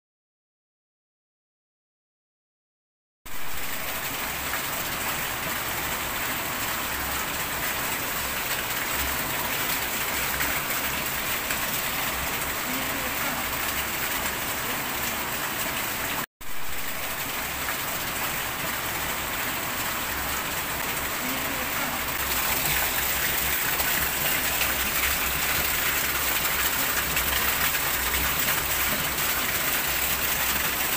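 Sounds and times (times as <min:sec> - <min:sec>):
rain falling on tiles: 0:03.3 - 0:30.9.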